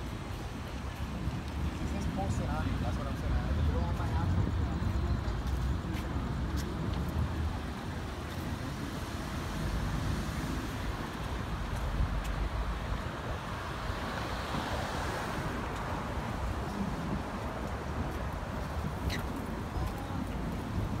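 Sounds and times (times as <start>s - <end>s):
cars passing on road: 0.0s - 21.0s.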